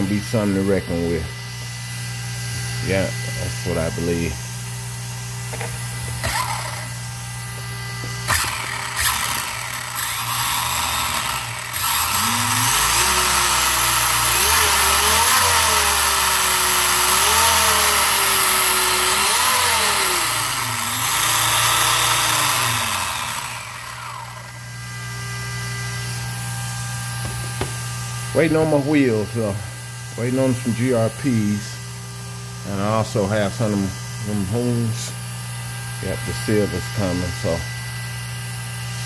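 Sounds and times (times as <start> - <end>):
electric motor whine: 0.0 - 39.0.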